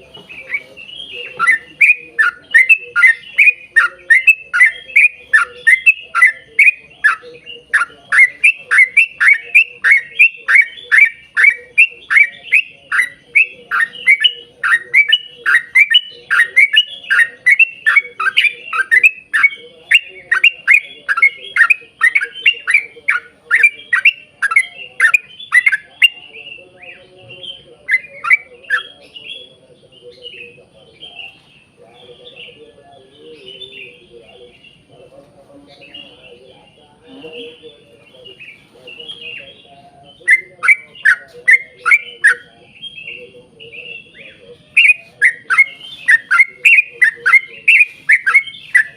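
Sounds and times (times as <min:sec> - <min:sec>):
bulbul singing: 0:00.0 - 0:48.9
soft bird chirps: 0:00.0 - 0:48.9.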